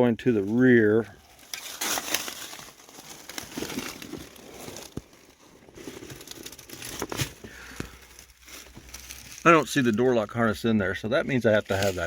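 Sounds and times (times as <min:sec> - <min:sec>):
rustling and crinkling of wiring: 0:00.0 - 0:12.0.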